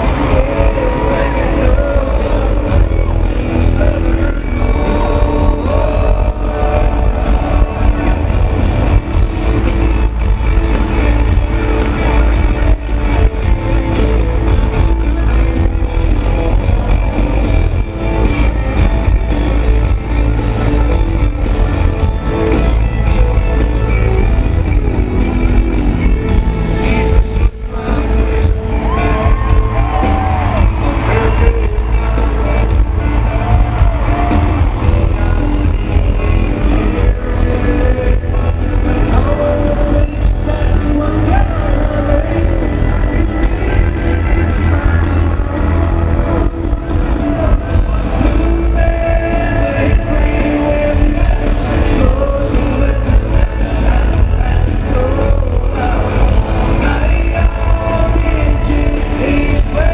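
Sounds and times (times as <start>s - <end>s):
electric guitar: 0.0s - 59.9s
live rock band: 0.0s - 59.9s.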